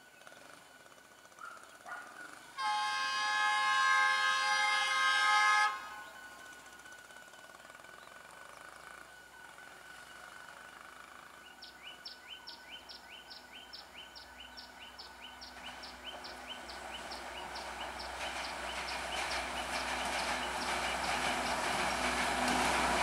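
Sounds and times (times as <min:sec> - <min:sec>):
diesel train approaching: 0:00.0 - 0:23.0.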